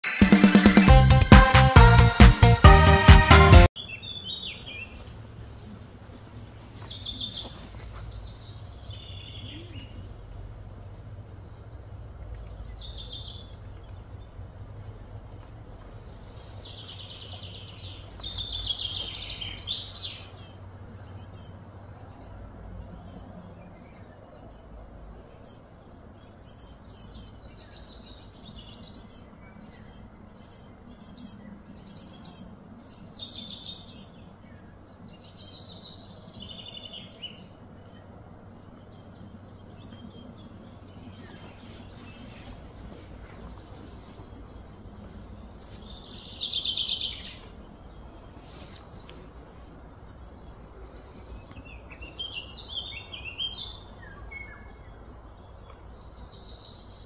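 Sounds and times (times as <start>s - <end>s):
birds chirping and trilling: 3.7s - 57.0s
faint low hum: 4.0s - 57.0s.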